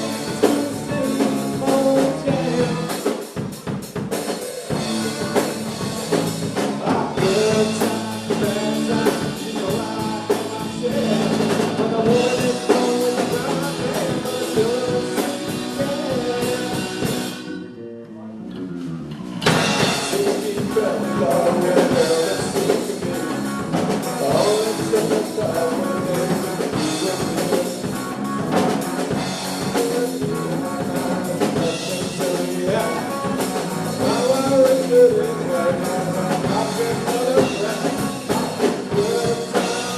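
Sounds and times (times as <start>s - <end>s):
person singing: 0.0s - 3.3s, 4.4s - 18.7s, 19.6s - 39.9s
live rock band playing: 0.0s - 17.7s, 18.6s - 39.9s.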